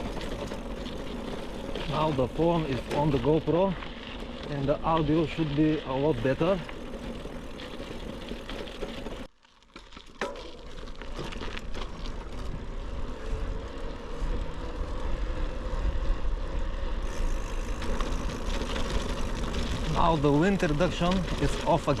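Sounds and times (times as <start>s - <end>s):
wind noise while cycling: 0.0s - 22.0s.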